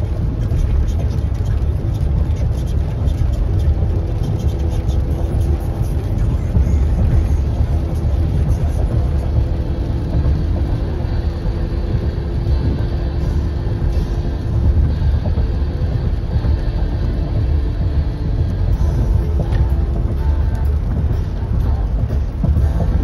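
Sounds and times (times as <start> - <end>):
car road noise rumble: 0.0 - 23.0.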